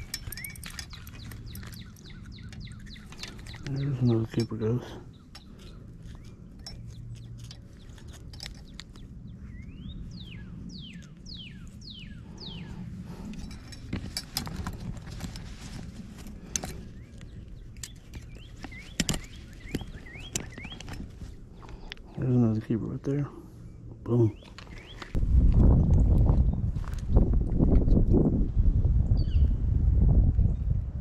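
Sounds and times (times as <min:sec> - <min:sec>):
low background rumble: 0:00.0 - 0:31.0.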